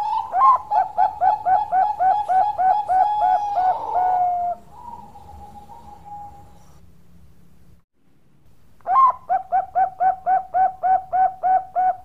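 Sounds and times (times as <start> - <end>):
dove cooing: 0.0 - 6.7, 8.9 - 12.0.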